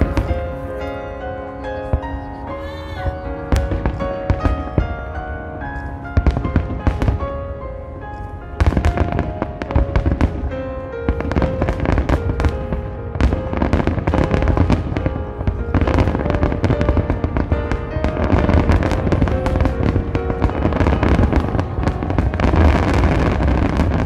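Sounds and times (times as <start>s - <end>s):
fireworks bangs: 0.0s - 24.0s
music with held melodic notes: 0.0s - 24.0s.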